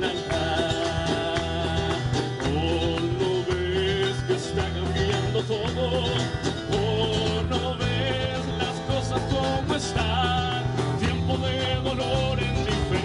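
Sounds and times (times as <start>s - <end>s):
guitars: 0.0s - 13.0s.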